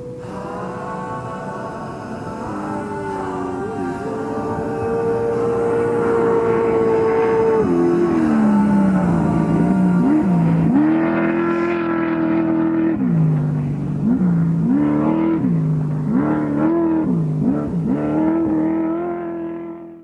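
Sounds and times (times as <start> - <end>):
race vehicle engine revving: 0.0 - 20.0.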